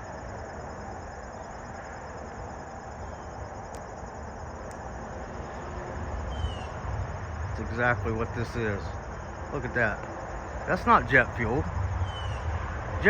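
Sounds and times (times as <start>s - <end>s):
insects chirping in a trill: 0.0s - 13.0s.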